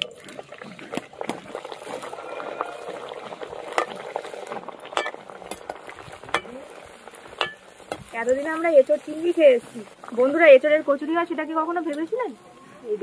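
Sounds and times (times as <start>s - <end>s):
oil sizzling and bubbling: 0.0s - 12.4s.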